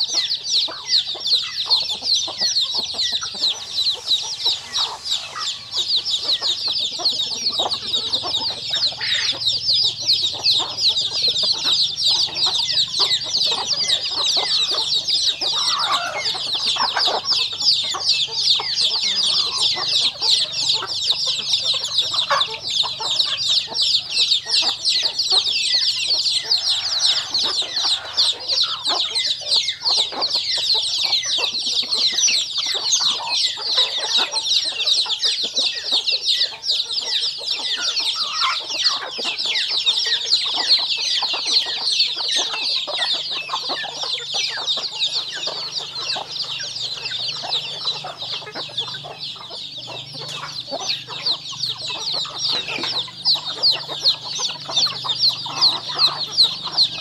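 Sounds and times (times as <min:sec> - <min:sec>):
chicks peeping: 0:00.0 - 0:57.0
hens clucking: 0:00.0 - 0:57.0.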